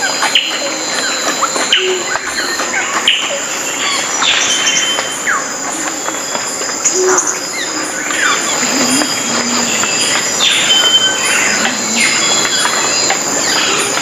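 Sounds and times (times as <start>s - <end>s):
birds chirping and whistling: 0.0s - 14.0s
high-pitched insect drone: 0.0s - 14.0s.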